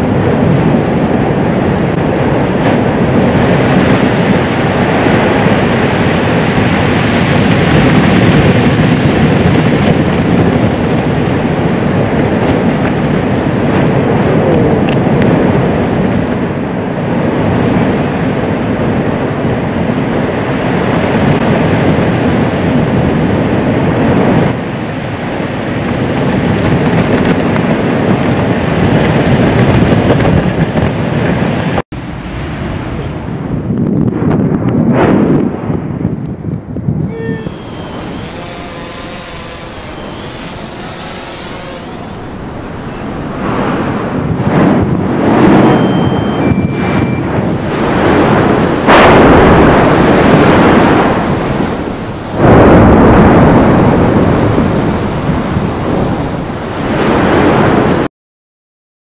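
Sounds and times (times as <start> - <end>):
volcano rushing roar: 0.0 - 45.8, 46.8 - 58.1.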